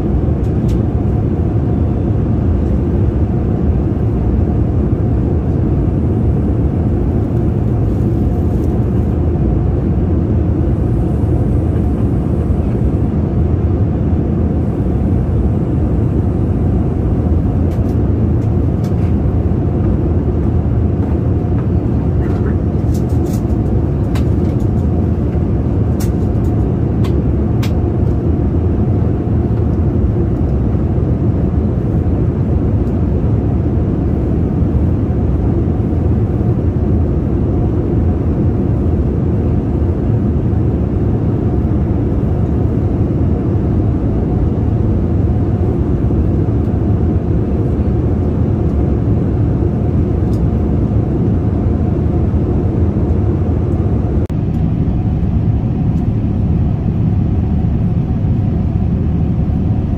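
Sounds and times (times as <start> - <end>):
airplane cabin airflow and engine noise: 0.0 - 59.9.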